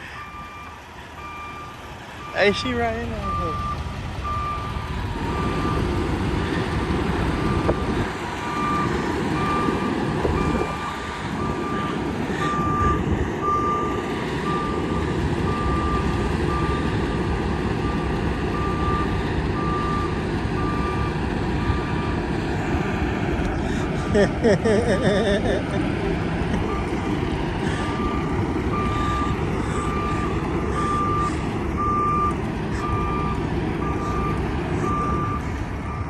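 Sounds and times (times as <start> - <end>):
truck reverse alarm beeping: 0.0 - 22.4, 23.7 - 36.0
low diesel engine rumble: 0.0 - 36.0.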